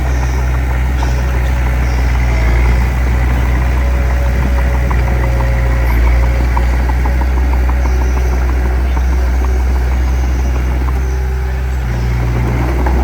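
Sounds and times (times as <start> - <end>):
diesel engine droning: 0.0 - 13.0
light regular ticking: 0.0 - 13.0.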